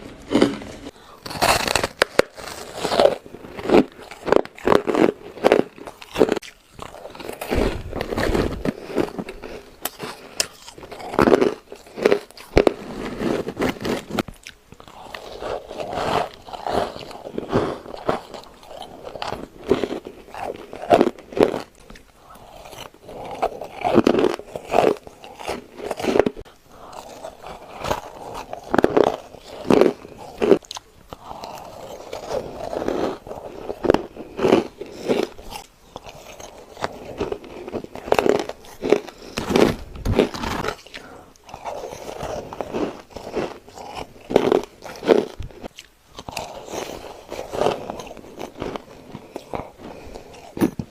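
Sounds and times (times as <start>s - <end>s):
person crunching ice: 0.0s - 50.9s.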